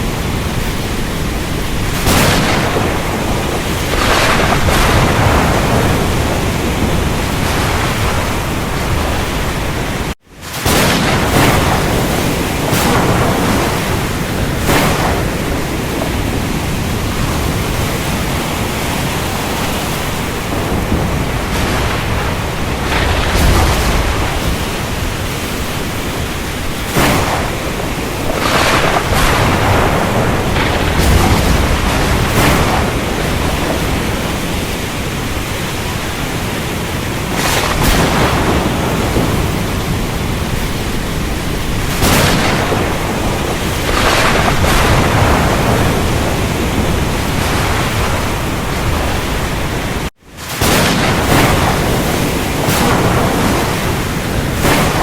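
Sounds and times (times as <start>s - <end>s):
heavy rain hiss: 0.0s - 55.0s
thunder cracks and rumbles: 0.0s - 55.0s.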